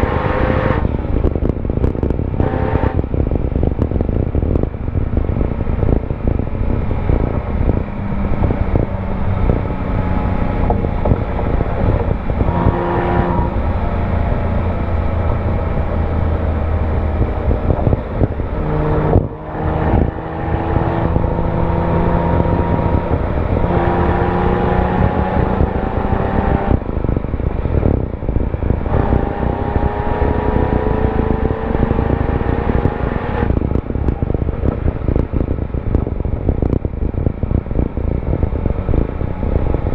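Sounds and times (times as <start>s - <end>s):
car exhaust note while driving: 0.0s - 39.9s
wind and road rush: 0.0s - 39.9s.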